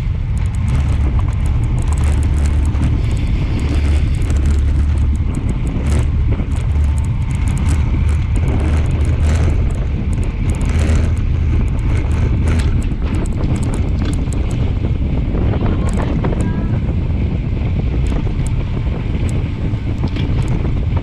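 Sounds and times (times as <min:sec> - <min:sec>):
light clicks and rattles: 0:00.0 - 0:16.6, 0:17.9 - 0:21.0
bicycle tyre and road noise: 0:00.0 - 0:21.0
wind buffeting microphone: 0:00.0 - 0:21.0.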